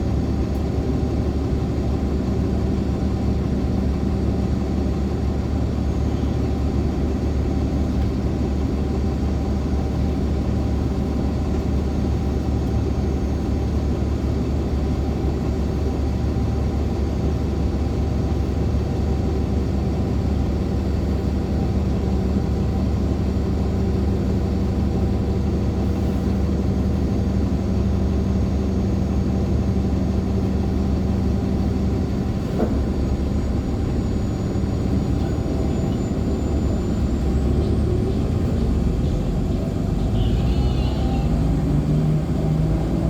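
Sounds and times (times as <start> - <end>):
bus engine droning: 0.0 - 43.0.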